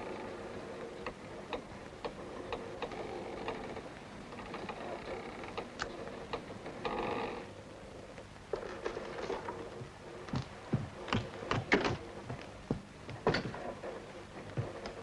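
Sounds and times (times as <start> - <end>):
creaking groaning sound: 0.0 - 15.0.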